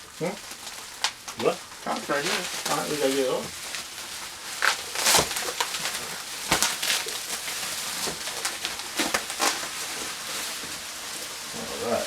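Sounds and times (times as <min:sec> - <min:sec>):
packing material rustling: 0:00.0 - 0:12.0.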